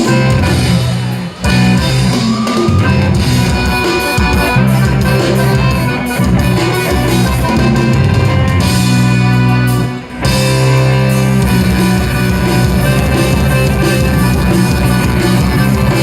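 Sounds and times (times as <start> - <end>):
loud music with guitar and drums: 0.0 - 16.0.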